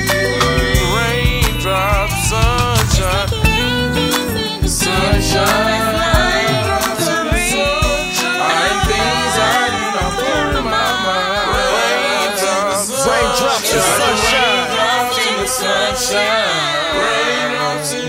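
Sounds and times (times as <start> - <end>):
voices singing with vibrato: 0.0 - 18.0.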